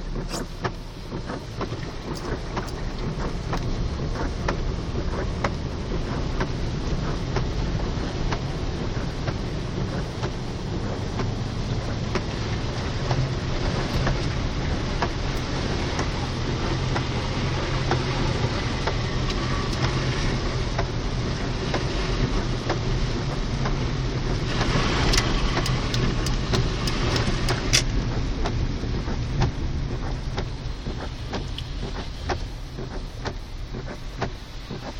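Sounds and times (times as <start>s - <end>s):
engine and road hum: 0.0s - 34.9s
rushing water and rain: 0.0s - 34.9s.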